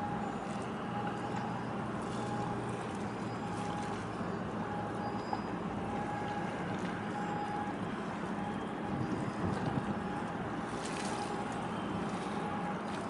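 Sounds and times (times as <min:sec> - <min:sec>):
background noise wash: 0:00.0 - 0:13.0
ship engine drone: 0:00.0 - 0:13.0.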